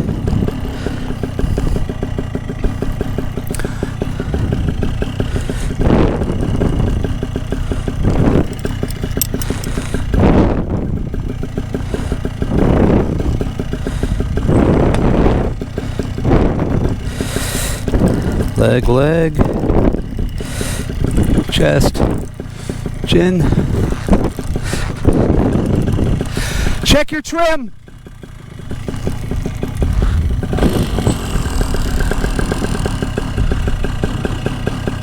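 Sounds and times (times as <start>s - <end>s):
wind buffeting microphone: 0.0s - 26.3s, 29.1s - 35.0s
engine running: 0.0s - 26.9s, 27.7s - 35.0s.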